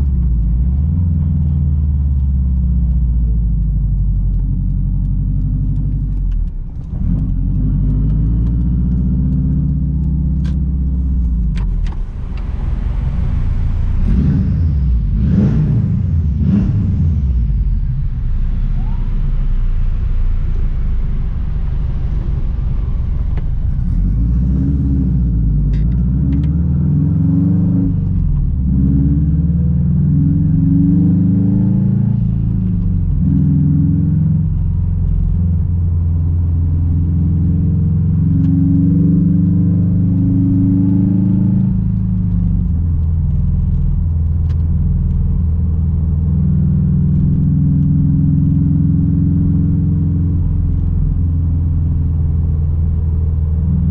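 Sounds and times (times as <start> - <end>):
car engine and exhaust driving: 0.0 - 53.9.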